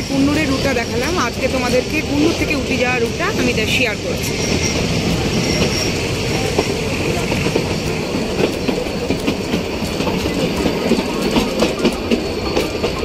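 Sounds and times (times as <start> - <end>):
train carriage rumbling on track: 0.0 - 13.0
wheels clicking and clattering: 0.0 - 13.0.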